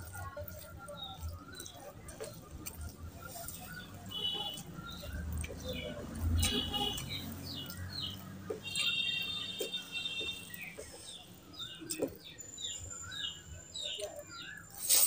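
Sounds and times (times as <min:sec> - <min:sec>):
food mixed by hand squelching: 0:00.0 - 0:15.0
small birds chirping: 0:00.0 - 0:15.0.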